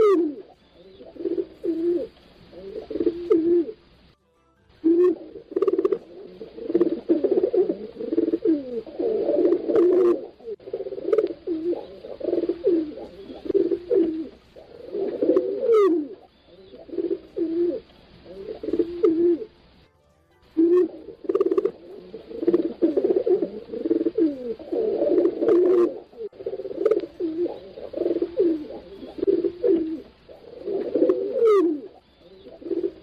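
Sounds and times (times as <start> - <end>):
pigeons cooing: 0.0 - 4.0, 4.8 - 19.7, 20.6 - 33.0.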